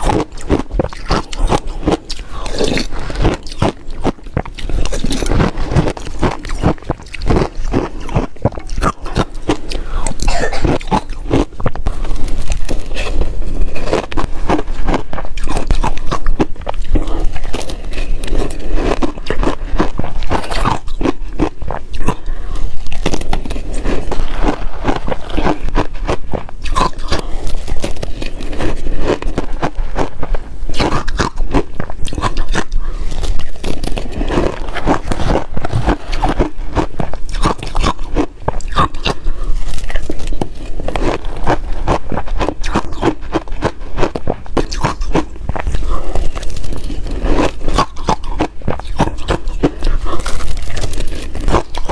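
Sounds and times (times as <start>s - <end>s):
ice being chewed and crunched: 0.0s - 51.9s.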